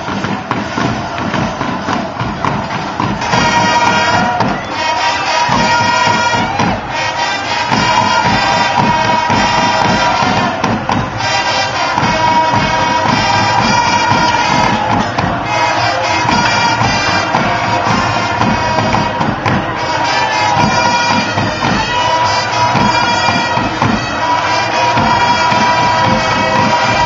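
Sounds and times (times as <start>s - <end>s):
marching drums: 0.0s - 27.0s
wind instruments playing melody: 0.0s - 27.0s.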